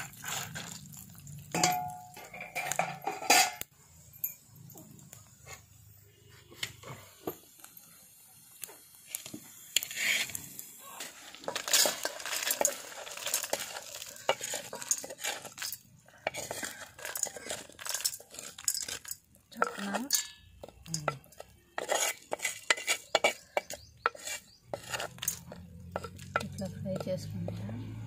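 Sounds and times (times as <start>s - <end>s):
spices scraped into steel bowl: 0.0s - 3.7s, 8.8s - 28.0s.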